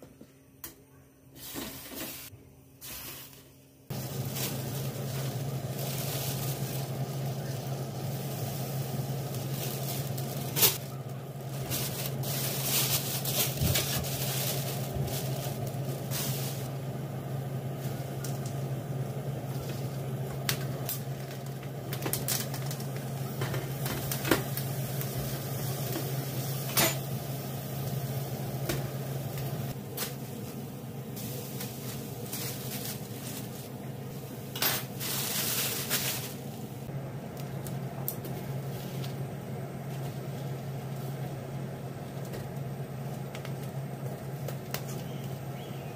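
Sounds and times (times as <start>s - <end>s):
steady low hum: 2.3s - 45.9s.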